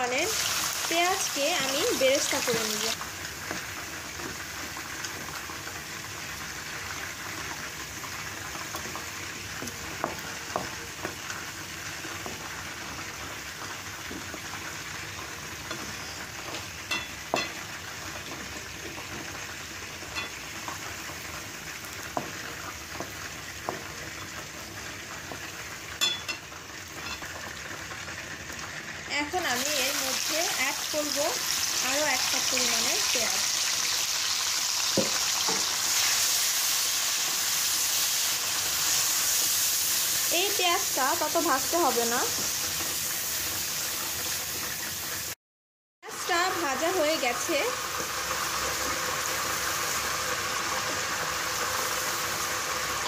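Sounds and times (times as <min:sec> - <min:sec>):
onions sizzling in oil: 0:00.0 - 0:45.4, 0:46.0 - 0:53.0.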